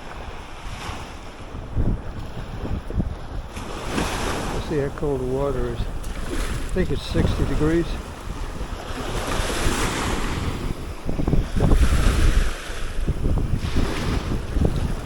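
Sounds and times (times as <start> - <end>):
small waves washing on sand: 0.0 - 15.0
wind buffeting microphone: 0.0 - 15.0.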